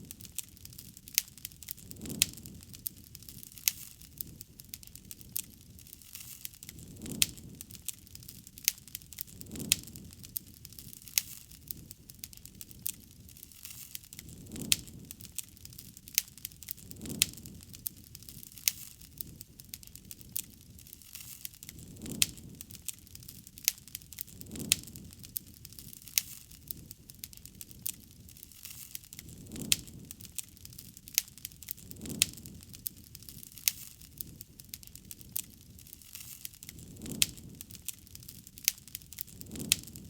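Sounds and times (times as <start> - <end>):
campfire crackling and popping: 0.0 - 40.0
low rush of flame: 0.0 - 40.0.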